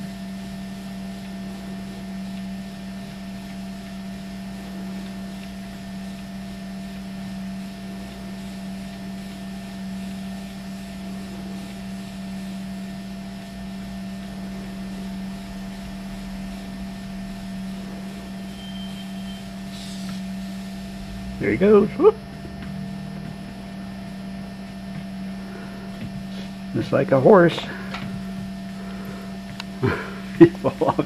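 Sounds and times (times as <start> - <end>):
treadmill belt whirring: 0.0 - 31.0
treadmill motor hum: 0.0 - 31.0.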